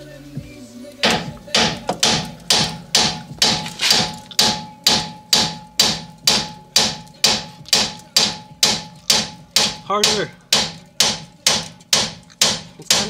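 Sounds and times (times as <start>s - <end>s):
hammer striking metal: 1.0s - 13.0s.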